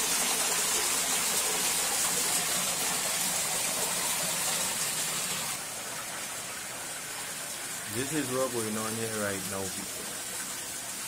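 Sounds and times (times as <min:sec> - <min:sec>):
floodwater gushing and splashing: 0:00.0 - 0:11.0.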